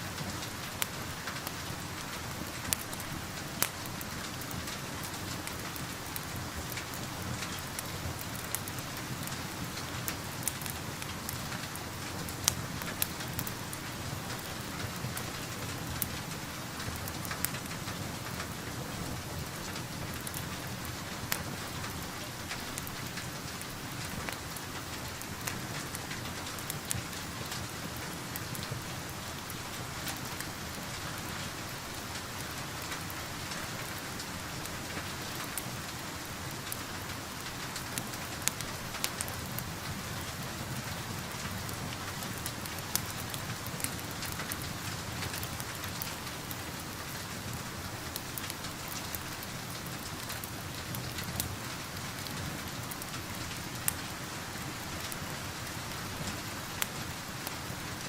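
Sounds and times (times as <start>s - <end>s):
steady rain: 0.0s - 58.0s
wood fire crackling: 0.0s - 58.0s.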